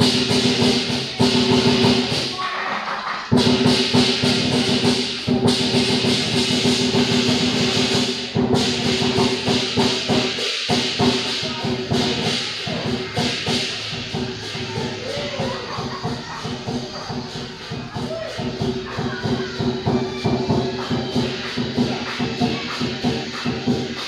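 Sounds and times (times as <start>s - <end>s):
crashing cymbals: 0.0s - 24.0s
drum beaten rapidly: 0.0s - 24.0s.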